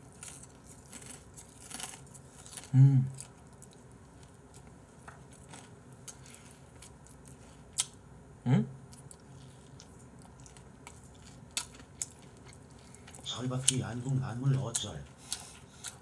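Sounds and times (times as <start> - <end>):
chewing fried chicken: 0.0 - 8.0, 8.8 - 16.0.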